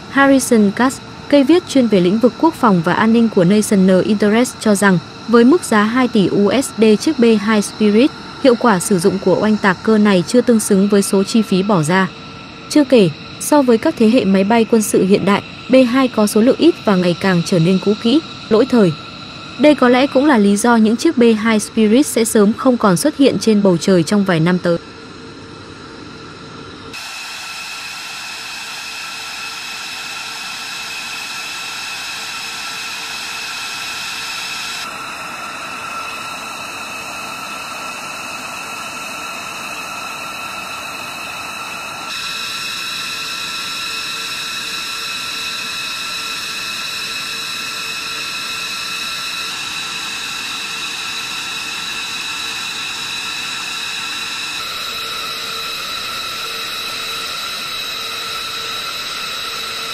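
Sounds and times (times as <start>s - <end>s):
jet turbine whine: 0.0s - 59.9s.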